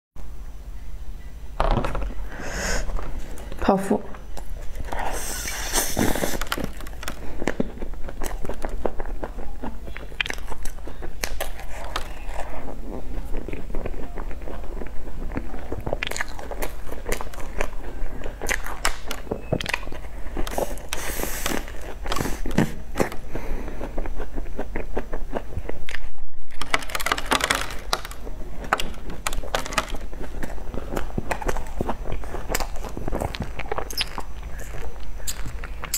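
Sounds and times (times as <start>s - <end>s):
crunching crust: 1.9s - 35.9s
soft mouth sounds: 2.2s - 26.1s, 30.1s - 35.9s
chewing: 2.2s - 35.9s.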